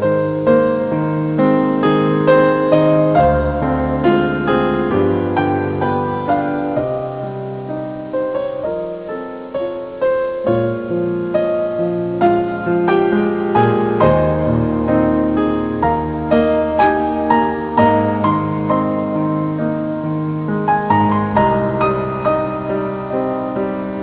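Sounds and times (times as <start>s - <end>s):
gentle solo piano music: 0.0s - 24.0s.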